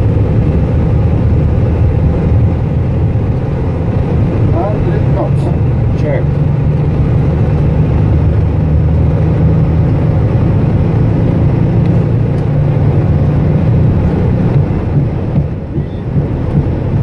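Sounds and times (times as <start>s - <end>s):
airliner cockpit rumble: 0.0s - 17.0s.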